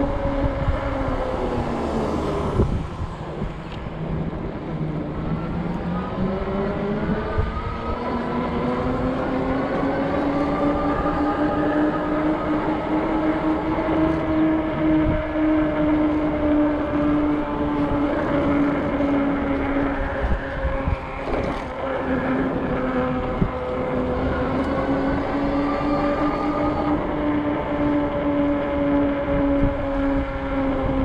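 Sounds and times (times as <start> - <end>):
electric bike motor hum: 0.0 - 31.0.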